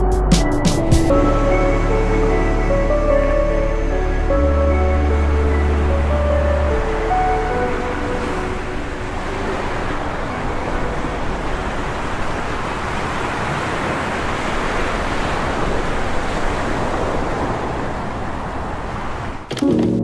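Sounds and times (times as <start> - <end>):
ocean surf breaking: 0.8 - 19.7.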